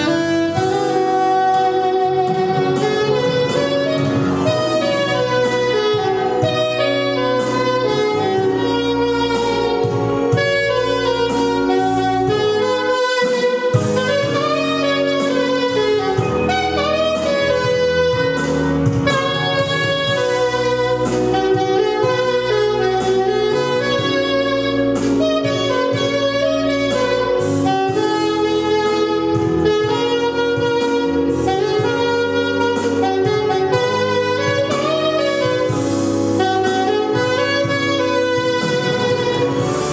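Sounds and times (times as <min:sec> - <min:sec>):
jazz saxophone melody: 0:00.0 - 0:39.9
steady bass line: 0:00.0 - 0:39.9.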